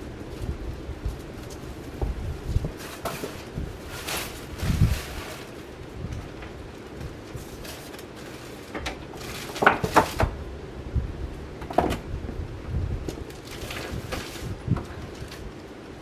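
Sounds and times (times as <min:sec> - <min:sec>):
ceiling fan rushing air: 0:00.0 - 0:16.0.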